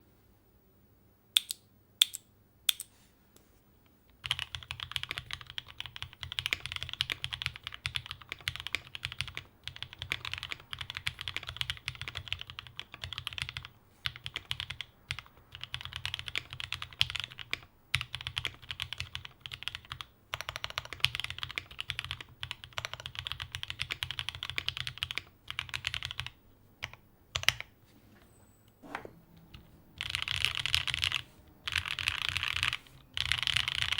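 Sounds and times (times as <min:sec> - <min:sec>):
mechanical keyboard typing: 0:04.2 - 0:27.7, 0:29.5 - 0:33.9.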